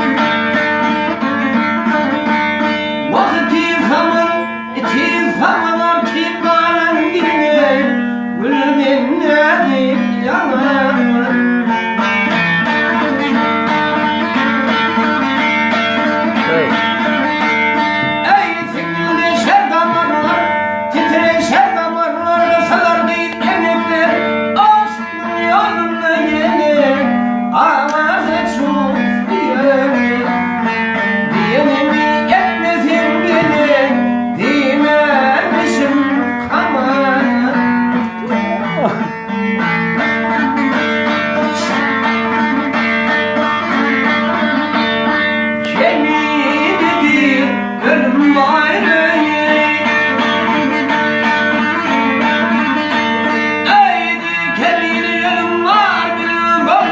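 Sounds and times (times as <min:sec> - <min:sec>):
plucked and bowed strings melody: 0:00.0 - 0:56.9.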